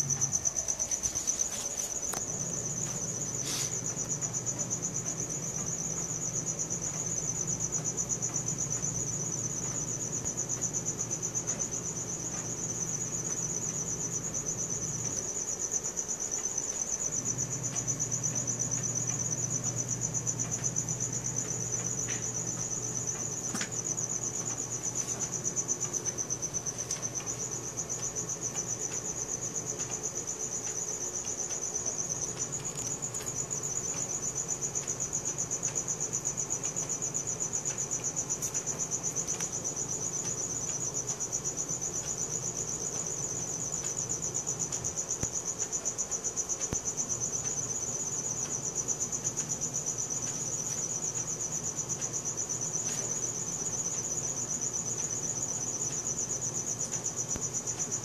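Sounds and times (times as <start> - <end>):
crickets chirping: 0.0 - 58.0
low steady hum: 0.0 - 58.0.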